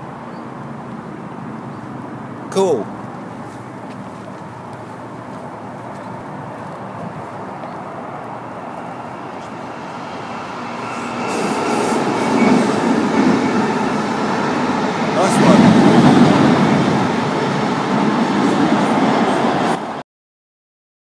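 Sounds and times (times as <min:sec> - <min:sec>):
train wheels rumbling on rails: 0:03.0 - 0:20.0.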